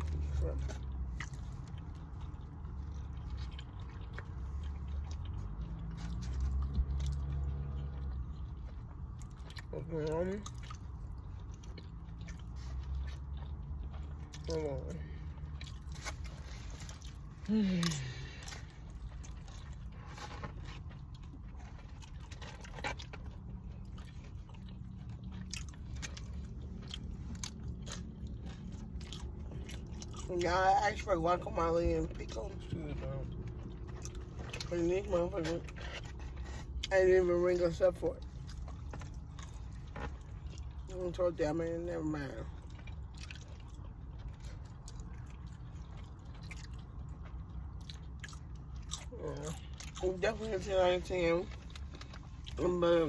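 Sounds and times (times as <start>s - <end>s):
chewing and biting food: 0.0s - 53.0s
steady low hum: 0.0s - 53.0s.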